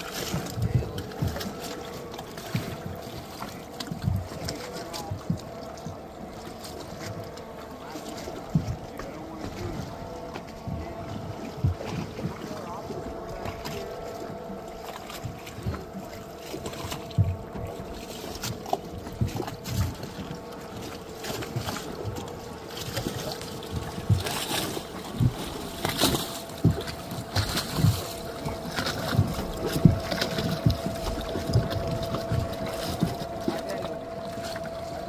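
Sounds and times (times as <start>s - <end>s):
outboard motor humming: 0.0s - 35.0s.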